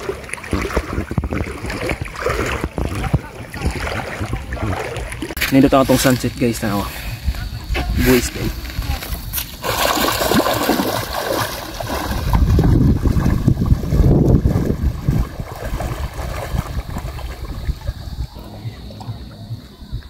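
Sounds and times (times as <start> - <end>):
seawater sloshing around wading person: 0.0 - 19.5.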